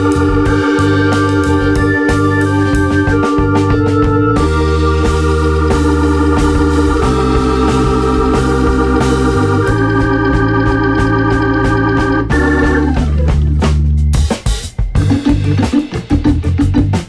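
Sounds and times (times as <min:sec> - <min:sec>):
electronic organ chords: 0:00.0 - 0:17.0
steady bass: 0:00.0 - 0:17.0.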